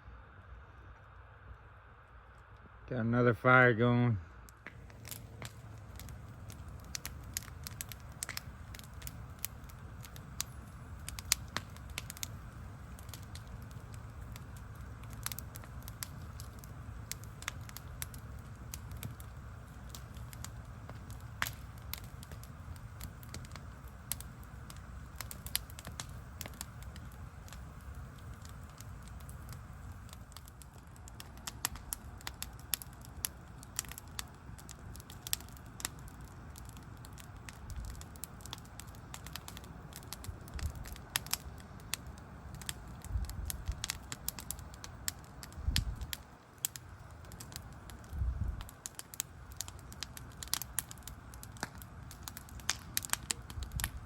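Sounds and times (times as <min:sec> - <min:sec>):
low steady rumble: 0:00.0 - 0:54.0
wood fire crackling and popping: 0:00.3 - 0:54.0.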